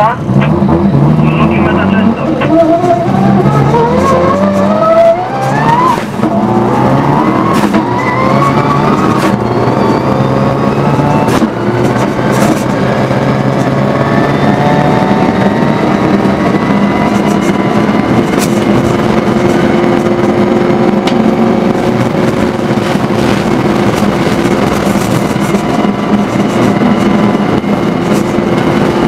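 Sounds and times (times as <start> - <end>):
rally car engine revving: 0.0 - 29.0
tyre and road noise: 0.0 - 29.0.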